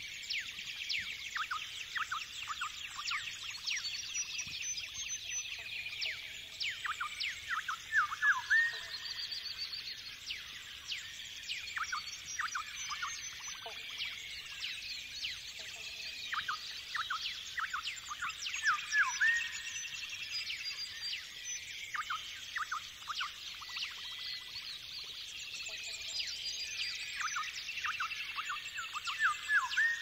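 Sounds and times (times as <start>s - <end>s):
chorus of birds: 0.0s - 30.0s.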